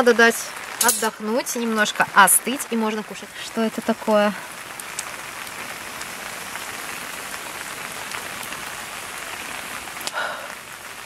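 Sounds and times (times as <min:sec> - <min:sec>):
raindrop ticks: 0:00.0 - 0:11.0
steady rain falling: 0:00.0 - 0:11.0.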